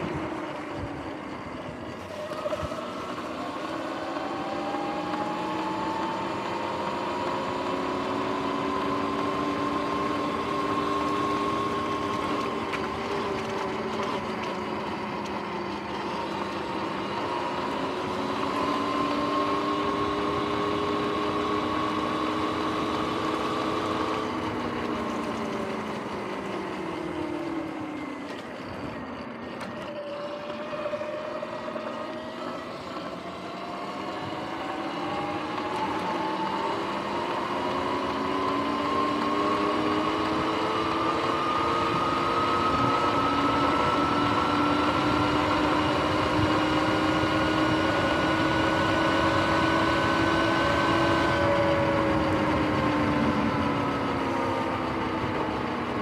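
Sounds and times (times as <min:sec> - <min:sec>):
electric motor and chain whining: 0:00.0 - 0:56.0.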